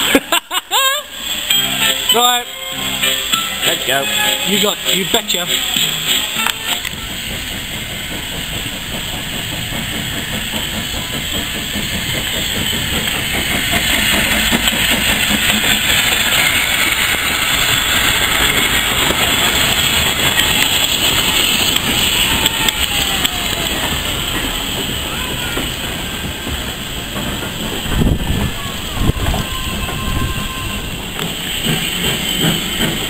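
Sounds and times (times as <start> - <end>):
steam locomotive hissing steam: 0.0 - 33.0
wheels clattering over rails: 3.2 - 33.0.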